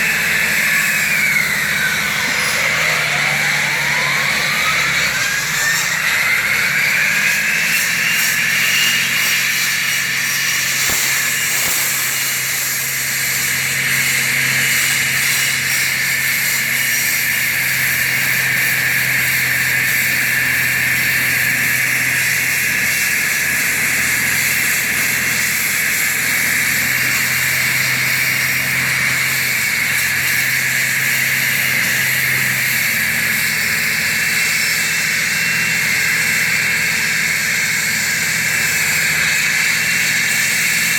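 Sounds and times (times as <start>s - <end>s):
floor saw whine: 0.0s - 40.9s.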